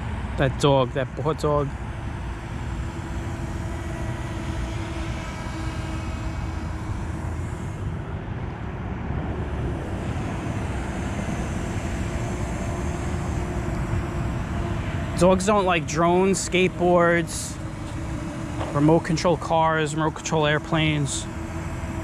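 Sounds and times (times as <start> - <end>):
drone propellers buzzing: 0.0 - 22.0
low steady rumble: 0.0 - 22.0.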